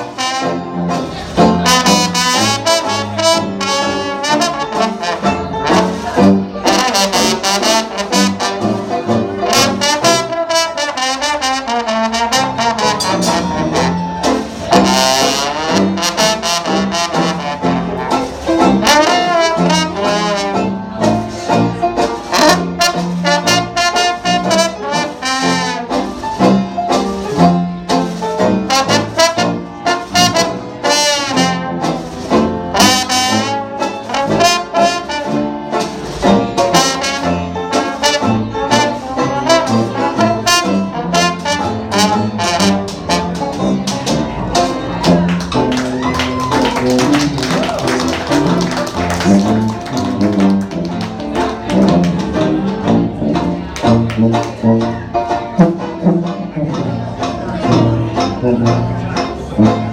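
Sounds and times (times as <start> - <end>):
jazz band playing: 0.0 - 59.9
trombone: 0.0 - 59.9.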